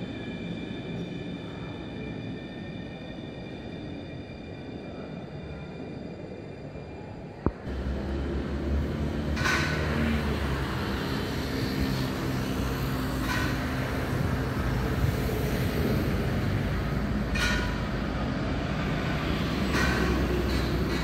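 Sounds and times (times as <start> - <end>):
tram rumbling on track: 0.0 - 21.0.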